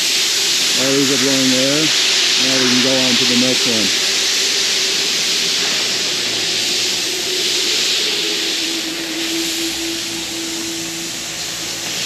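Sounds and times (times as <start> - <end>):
sprinkler heads hissing air: 0.0 - 12.0.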